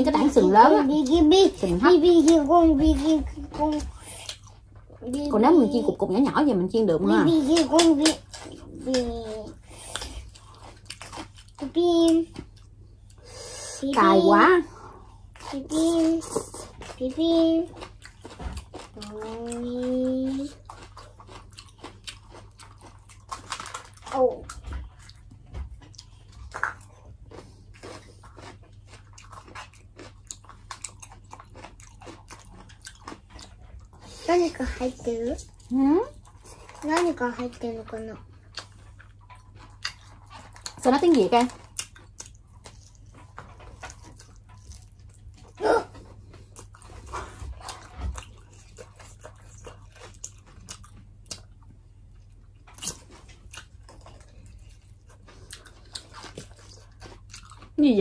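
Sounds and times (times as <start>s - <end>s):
person chewing crunchy food: 0.0s - 5.3s, 7.0s - 58.0s.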